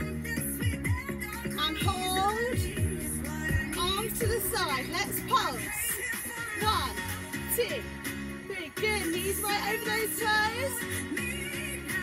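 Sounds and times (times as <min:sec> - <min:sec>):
person singing over a beat: 0:00.0 - 0:12.0.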